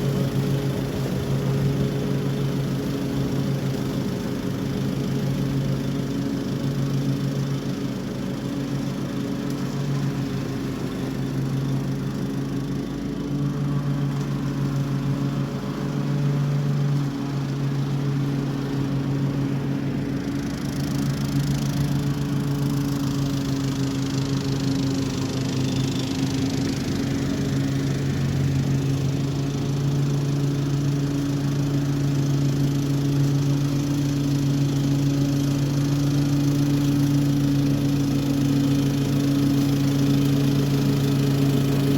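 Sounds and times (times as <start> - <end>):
high hiss of cutting grass: 0.0 - 41.9
lawn mower engine running: 0.0 - 41.9.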